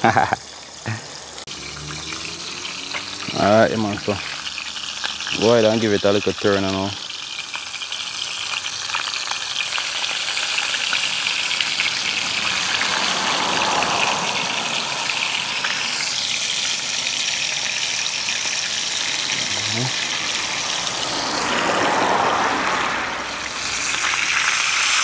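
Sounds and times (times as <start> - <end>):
fish sizzling in hot oil: 0.0 - 25.0.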